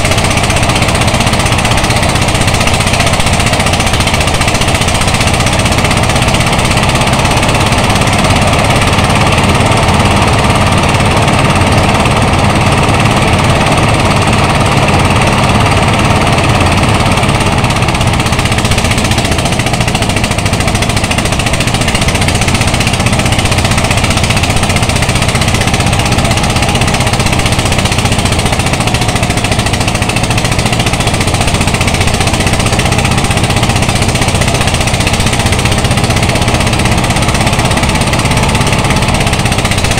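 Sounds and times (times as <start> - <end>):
rice thresher engine running: 0.0 - 39.9.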